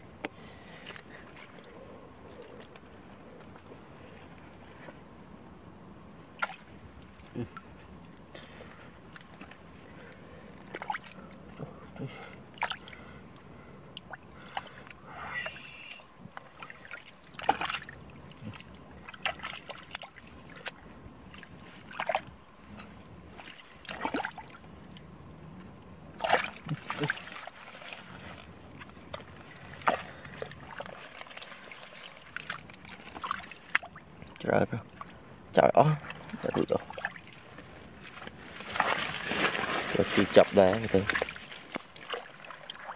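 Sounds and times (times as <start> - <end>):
fish splashing in shallow water: 6.2 - 42.9.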